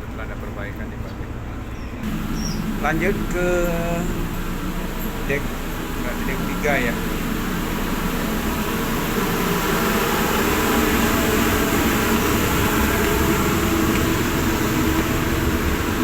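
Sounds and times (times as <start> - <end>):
ferry engine machinery drone: 0.0 - 16.0.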